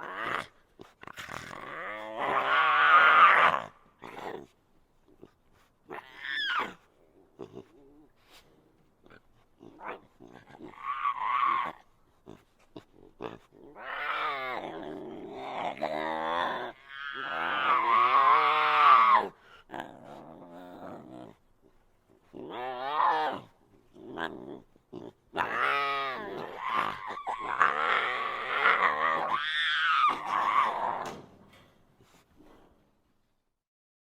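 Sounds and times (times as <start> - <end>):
creature growls and calls: 0.0 - 4.5, 5.9 - 8.1, 9.6 - 21.4, 22.2 - 31.2.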